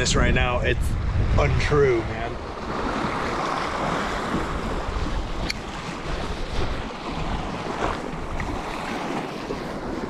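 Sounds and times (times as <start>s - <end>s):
wind buffeting microphone: 0.0s - 10.0s
waves washing against rocks: 1.2s - 10.0s.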